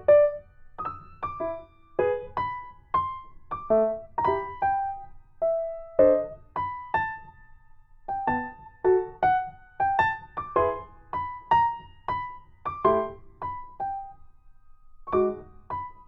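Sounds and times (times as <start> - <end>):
gentle piano-like keyboard melody: 0.0 - 16.0.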